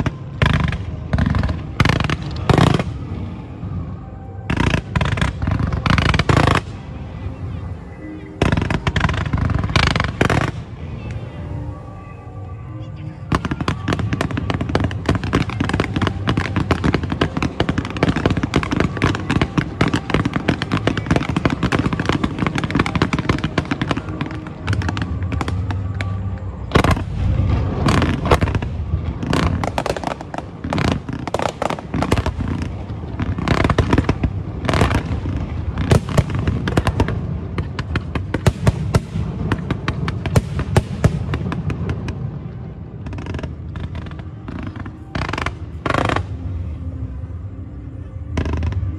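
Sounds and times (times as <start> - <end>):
fireworks bangs: 0.0 - 7.4, 8.0 - 11.3, 13.3 - 46.8
fireworks crackling: 0.0 - 48.9.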